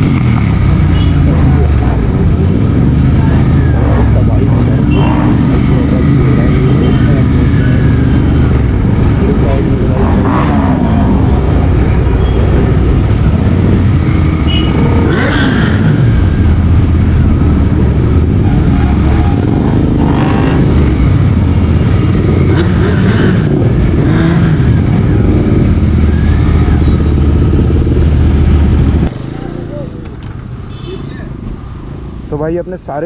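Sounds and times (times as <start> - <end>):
motorcycle engine revving: 0.0 - 30.9
other motorcycles riding: 0.0 - 33.0.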